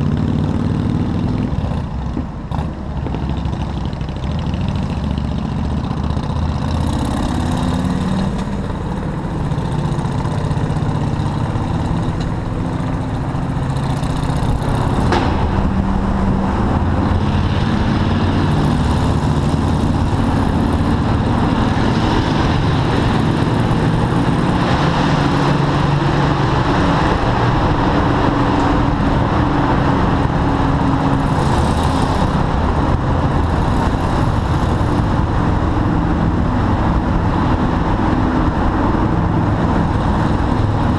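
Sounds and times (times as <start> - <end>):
motorcycle engine revving: 0.0 - 40.9
road and traffic noise: 0.0 - 40.9.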